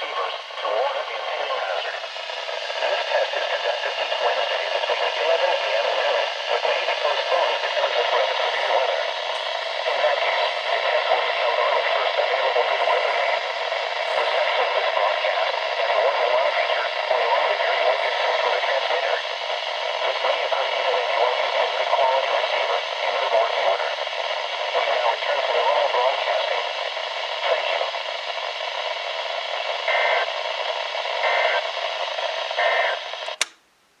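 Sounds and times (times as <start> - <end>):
voice announcement over radio: 0.0 - 33.5
radio static hiss: 0.0 - 33.6.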